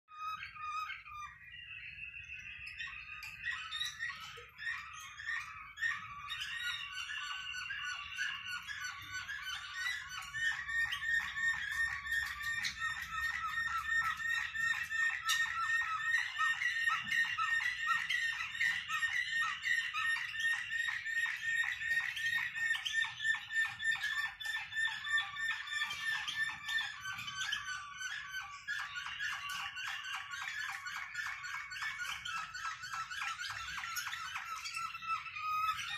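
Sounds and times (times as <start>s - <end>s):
finches singing: 0.1s - 35.9s.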